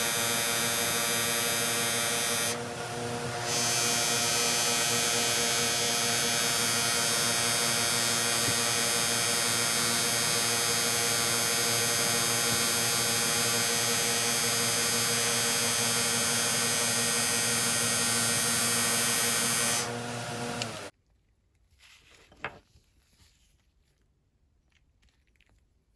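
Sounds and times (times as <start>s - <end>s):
power tool motor humming: 0.0s - 20.9s.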